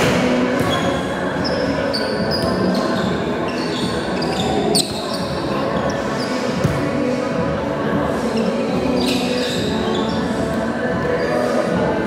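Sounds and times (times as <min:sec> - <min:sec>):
sneakers squeaking on floor: 0:00.0 - 0:07.1, 0:08.3 - 0:12.0
background voices in hall: 0:00.0 - 0:12.0.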